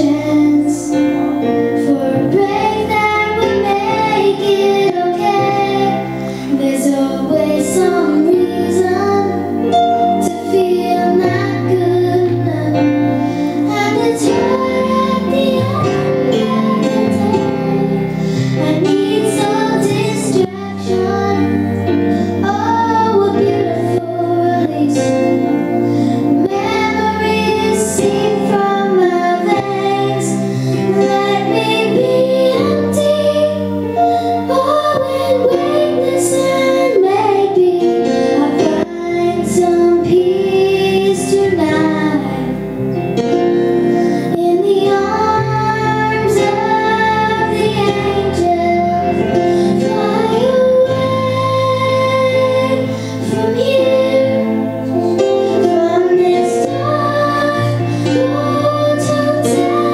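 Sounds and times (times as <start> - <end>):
girl singing into a microphone: 0.0 - 42.7, 43.9 - 59.9
instrumental accompaniment: 0.0 - 59.9.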